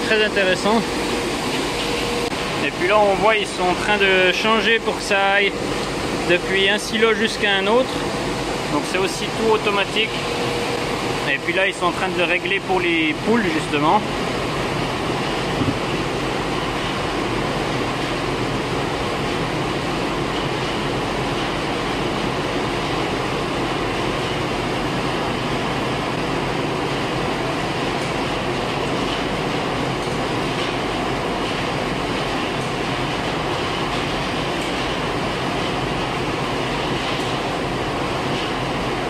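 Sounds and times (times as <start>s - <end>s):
mill machinery running: 0.0s - 39.0s.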